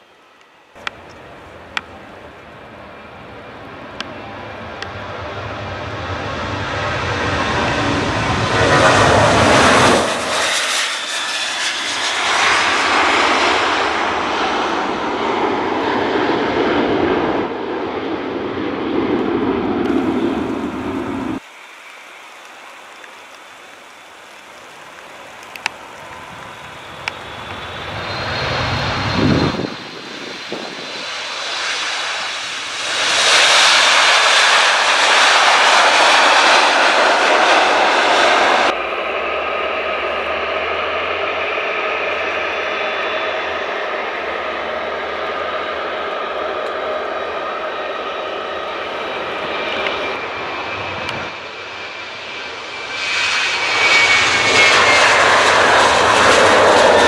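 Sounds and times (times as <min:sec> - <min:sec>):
jet airliner engines roaring: 0:00.0 - 0:57.0.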